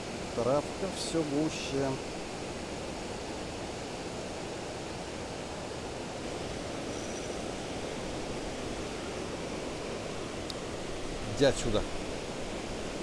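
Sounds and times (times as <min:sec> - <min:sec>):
river water rushing over rapids: 0:00.0 - 0:13.0.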